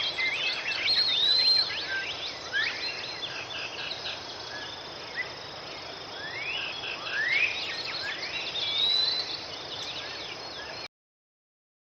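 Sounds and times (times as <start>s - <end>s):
birds whistling and trilling: 0.0s - 5.4s, 6.2s - 10.9s.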